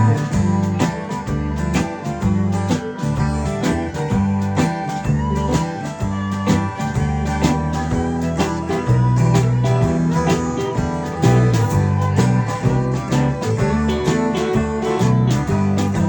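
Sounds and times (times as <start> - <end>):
acoustic guitar picking and strumming: 0.0 - 16.0
walking bass line: 0.0 - 16.0.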